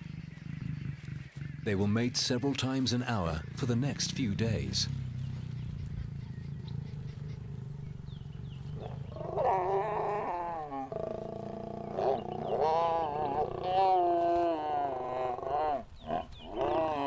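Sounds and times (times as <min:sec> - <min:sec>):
lions snarling and growling: 0:00.0 - 0:01.7, 0:04.8 - 0:17.0.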